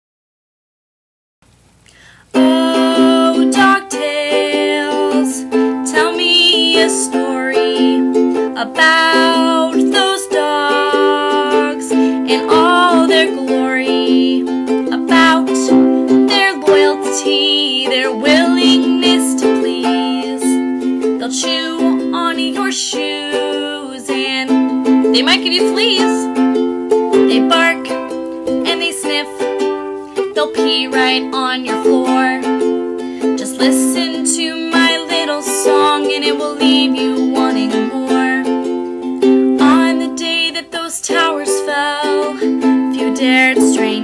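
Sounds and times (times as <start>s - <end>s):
ukulele playing chords: 2.3s - 44.0s.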